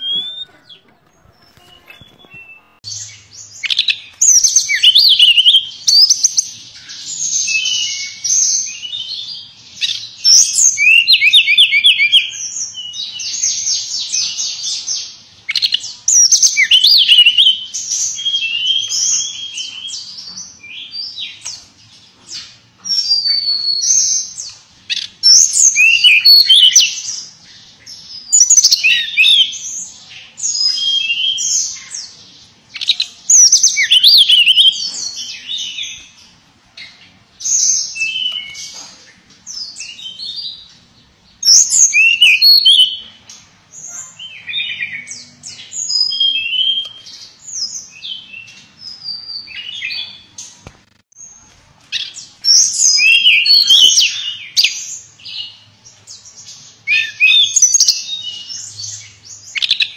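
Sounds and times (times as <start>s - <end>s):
bird singing trills and whistles: 0.0s - 40.7s, 41.4s - 50.6s, 51.9s - 59.9s.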